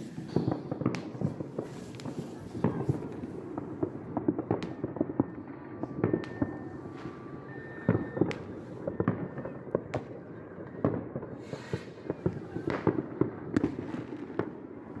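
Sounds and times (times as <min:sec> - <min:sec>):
fireworks bangs and pops: 0:00.0 - 0:15.0
fireworks crackle: 0:00.0 - 0:15.0.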